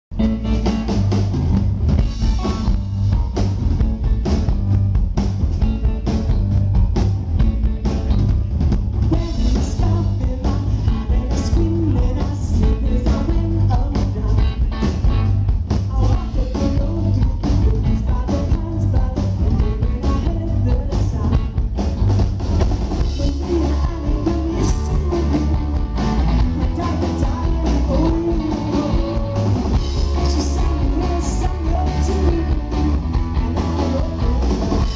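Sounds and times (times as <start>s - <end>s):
boomy bass: 0.0s - 34.9s
live rock band playing: 0.1s - 34.9s.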